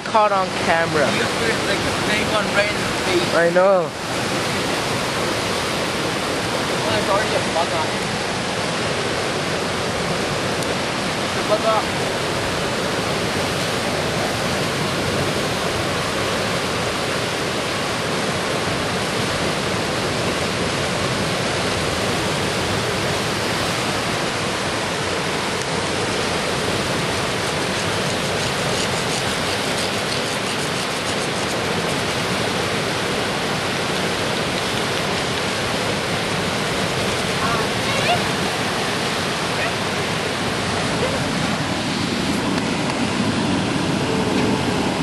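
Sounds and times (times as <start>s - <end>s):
river water rushing: 0.0s - 45.0s.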